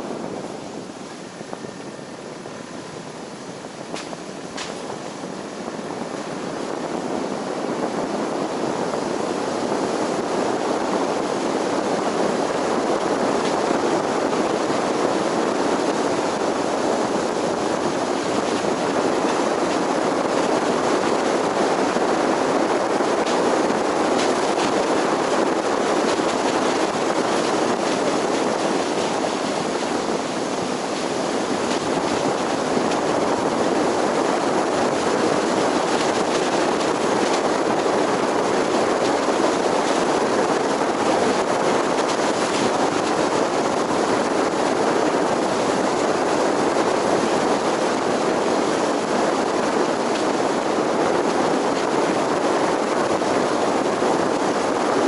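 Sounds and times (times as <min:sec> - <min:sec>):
road and tyre noise: 0:00.0 - 0:55.0.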